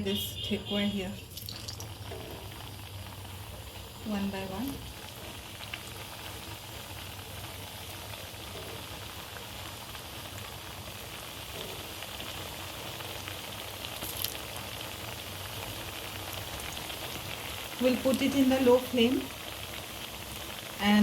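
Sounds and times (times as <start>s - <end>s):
dough frying in hot oil: 0.0s - 21.0s.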